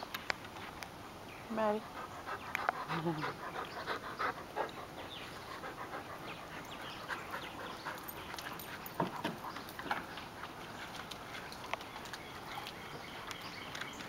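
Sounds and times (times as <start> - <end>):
dog panting: 1.6 - 13.4.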